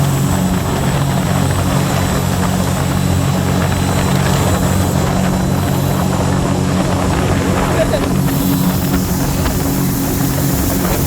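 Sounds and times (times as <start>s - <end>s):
boat engine running: 0.0s - 11.0s
rushing water noise: 0.0s - 11.0s.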